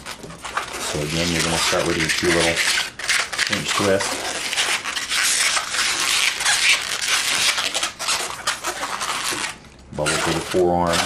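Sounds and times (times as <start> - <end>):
balloon latex rubbing: 0.0 - 11.0.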